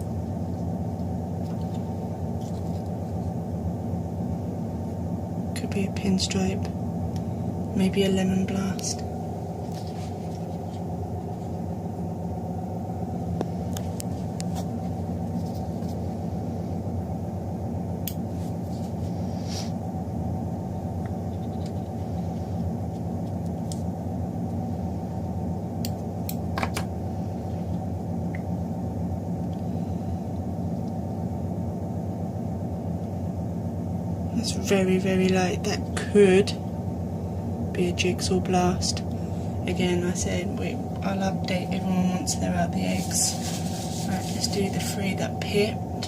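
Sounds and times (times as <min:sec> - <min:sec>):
low machine hum: 0:00.0 - 0:46.0.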